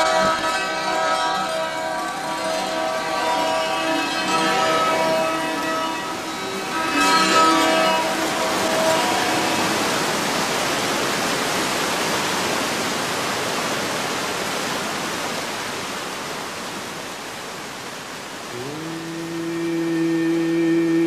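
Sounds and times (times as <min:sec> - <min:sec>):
whitewater rapids rushing: 0:00.0 - 0:21.0.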